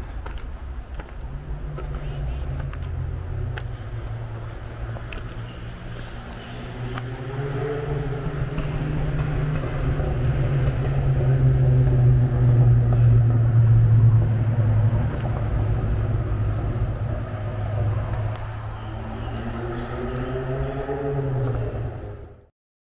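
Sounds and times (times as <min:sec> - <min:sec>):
vehicle driving past: 0:01.0 - 0:22.5.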